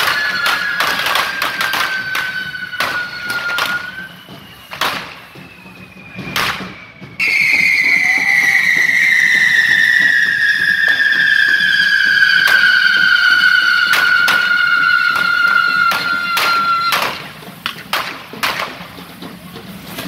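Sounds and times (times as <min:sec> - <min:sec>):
firecracker bangs: 0:00.0 - 0:19.0
firework fountain whistling: 0:00.0 - 0:20.0.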